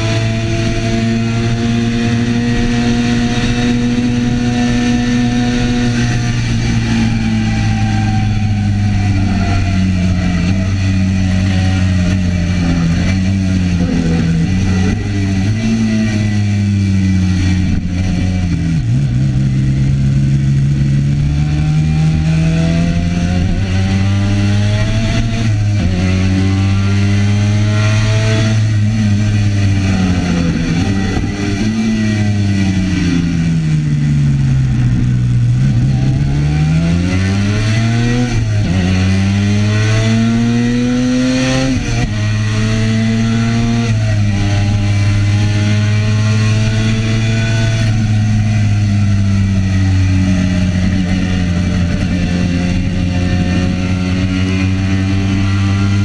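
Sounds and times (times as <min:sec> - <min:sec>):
racing motorcycle engine accelerating: 0:00.0 - 0:56.0.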